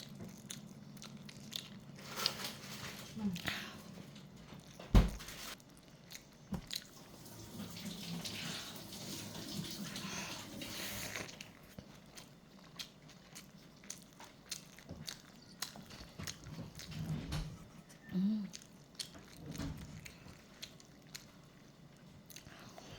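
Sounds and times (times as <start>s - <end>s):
wet chewing: 0.0s - 4.8s, 5.5s - 7.0s, 9.8s - 22.9s.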